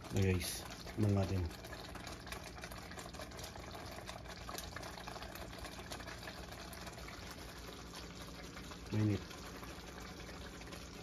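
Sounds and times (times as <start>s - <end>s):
sauce simmering with small pops: 0.0s - 11.0s.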